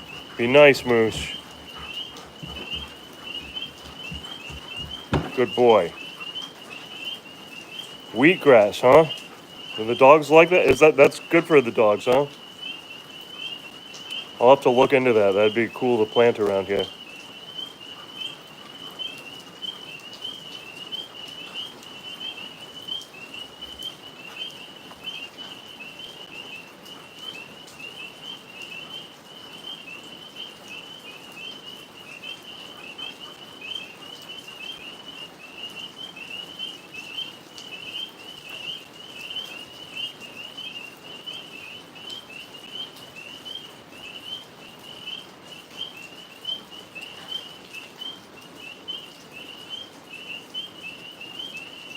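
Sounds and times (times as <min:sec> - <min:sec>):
tree frogs chirping: 0:00.0 - 0:51.9.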